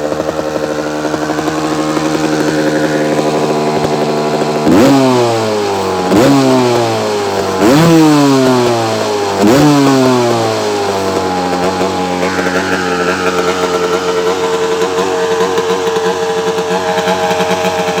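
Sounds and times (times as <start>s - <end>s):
motorcycle engine idling: 0.0s - 18.0s
motorcycle engine revving: 0.0s - 18.0s.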